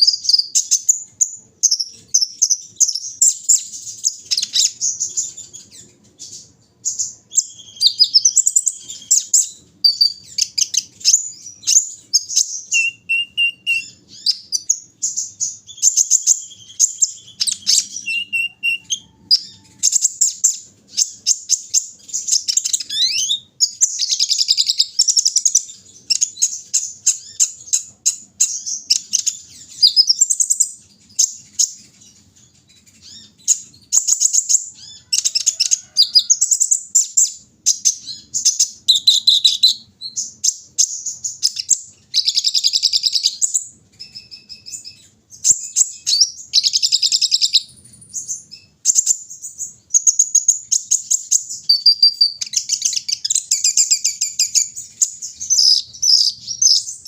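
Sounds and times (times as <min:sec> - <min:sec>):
sunbird twittering: 0:00.0 - 0:57.0.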